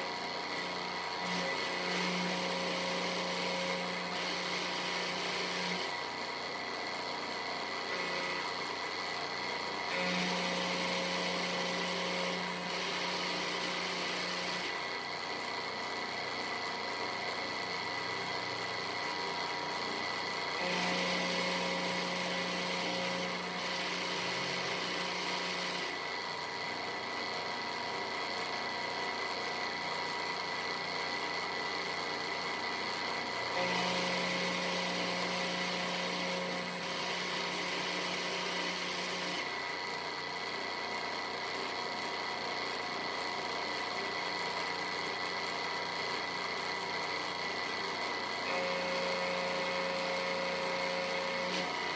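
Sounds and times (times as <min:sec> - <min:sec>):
router spindle cutting metal: 0:00.0 - 0:51.9.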